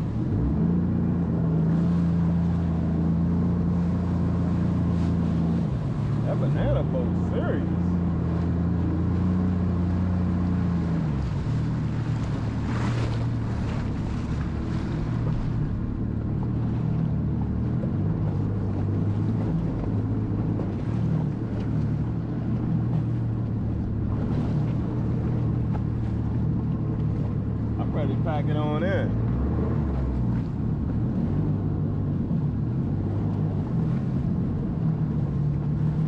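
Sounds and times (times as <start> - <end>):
jet ski engine running: 0.0 - 36.0
water rushing: 0.0 - 36.0
wind: 0.0 - 36.0.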